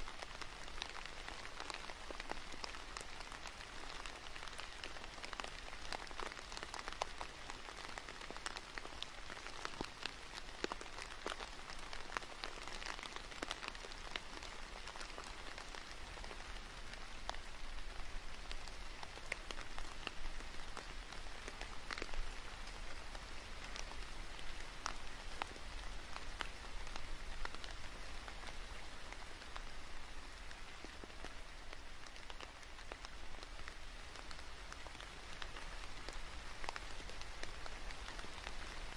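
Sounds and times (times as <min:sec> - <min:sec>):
rain falling on foliage: 0:00.0 - 0:38.9
raindrops ticking: 0:00.0 - 0:38.9.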